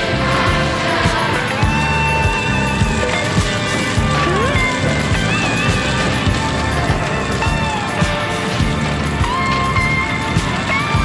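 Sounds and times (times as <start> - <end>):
music with low beat: 0.0 - 11.0.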